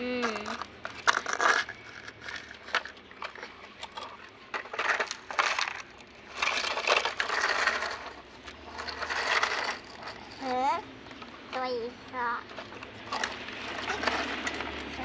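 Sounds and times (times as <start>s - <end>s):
plastic toys clattering and scraping: 0.0s - 15.0s
plastic toys clicking: 0.0s - 15.0s.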